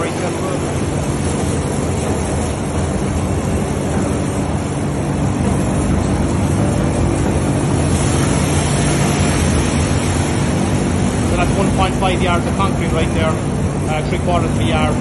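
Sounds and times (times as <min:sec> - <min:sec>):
machinery rumble: 0:00.0 - 0:15.0.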